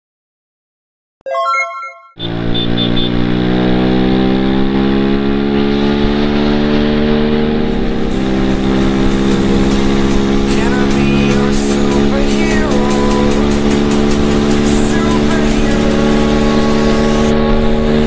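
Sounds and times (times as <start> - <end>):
motorcycle engine pulling hard: 2.3 - 18.0.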